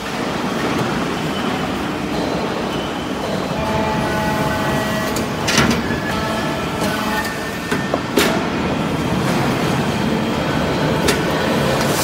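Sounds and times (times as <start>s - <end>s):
press machine hum with whine: 0.0s - 12.0s.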